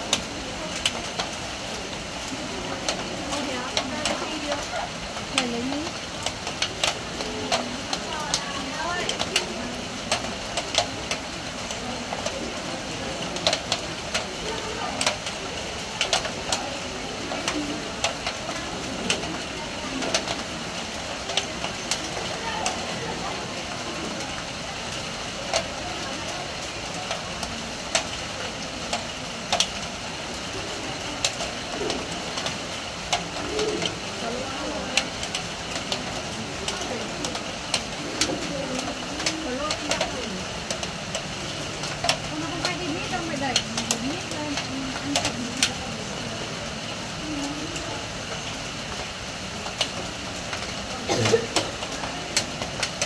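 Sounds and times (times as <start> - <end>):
rain on a metal roof: 0.0 - 53.0.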